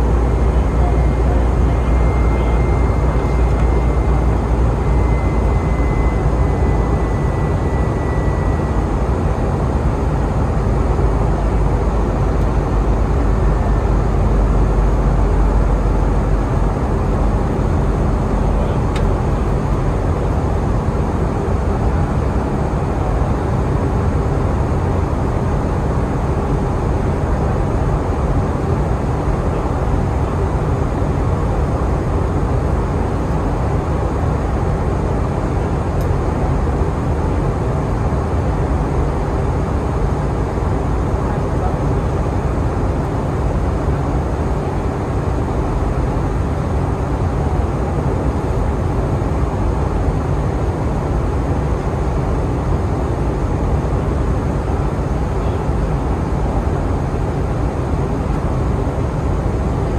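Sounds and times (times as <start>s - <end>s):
airplane cabin noise: 0.0s - 59.9s.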